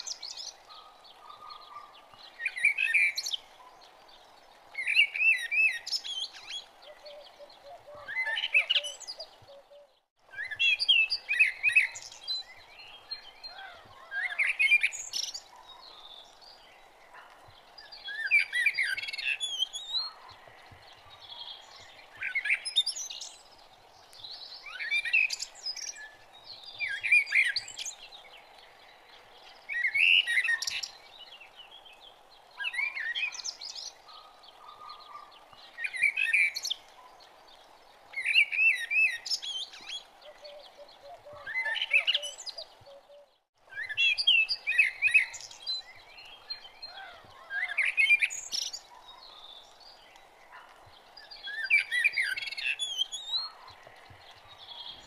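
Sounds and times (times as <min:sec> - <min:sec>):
songbird warbling chirps: 0:00.0 - 0:55.0.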